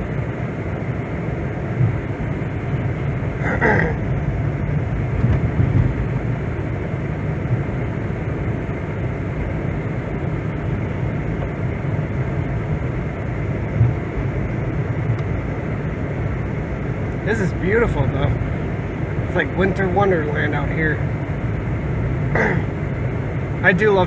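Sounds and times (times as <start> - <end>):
car driving on snow: 0.0 - 24.0.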